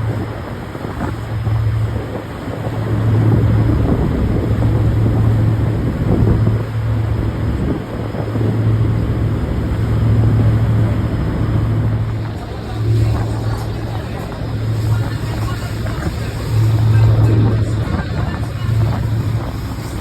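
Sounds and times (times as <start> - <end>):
motorboat engine droning: 0.0 - 20.0
rushing water: 0.0 - 20.0
wind: 0.0 - 20.0.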